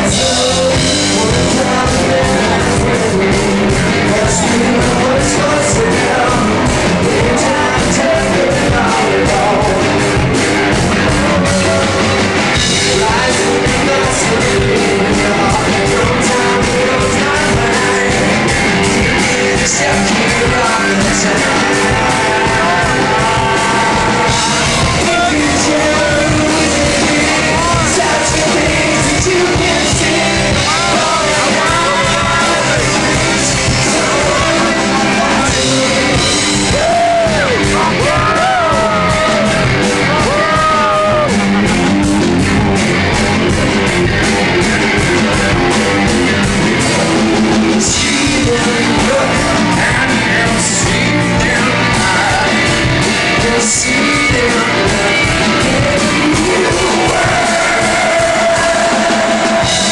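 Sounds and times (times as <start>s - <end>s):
loud rock music: 0.0s - 59.9s
steady drumbeat: 0.0s - 59.9s
voices singing and yelling: 0.0s - 59.9s.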